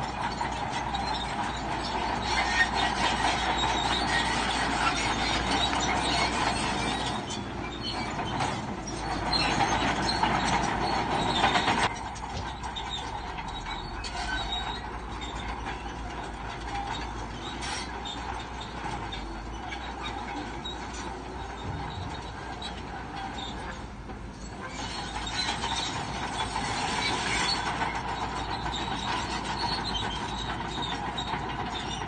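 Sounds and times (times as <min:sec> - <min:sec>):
diesel engine running: 0:00.0 - 0:32.0
steel tracks clanking and squealing: 0:00.0 - 0:32.0.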